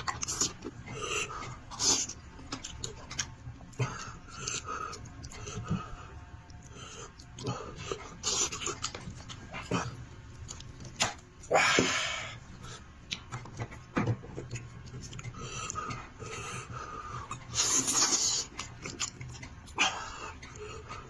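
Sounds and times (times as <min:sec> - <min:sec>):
wet chewing and lip-smacking: 0:00.0 - 0:11.5, 0:12.6 - 0:21.0.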